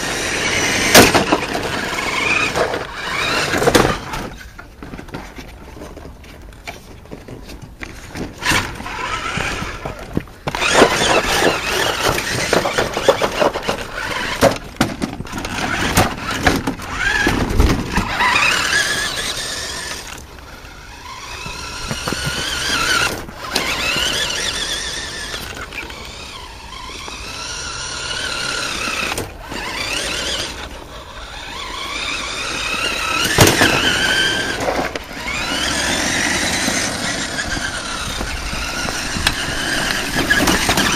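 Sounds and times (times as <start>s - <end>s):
toy truck motor whining: 0.0s - 4.6s, 7.8s - 40.9s.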